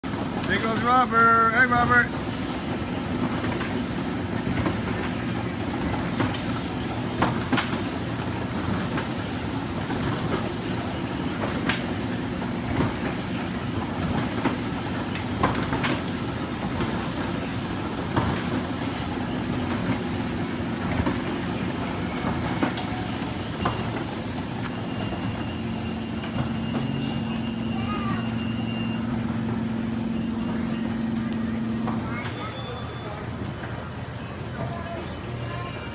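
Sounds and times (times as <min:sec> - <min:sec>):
ride cars clicking and knocking: 0:00.0 - 0:35.9
ride mechanical drone: 0:00.0 - 0:35.9.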